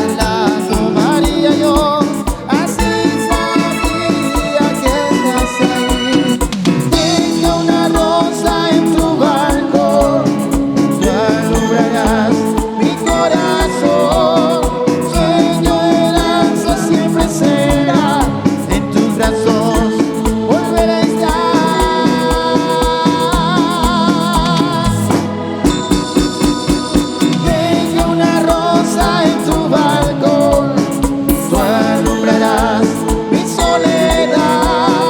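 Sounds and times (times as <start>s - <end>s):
singing over a steady beat: 0.0s - 35.0s.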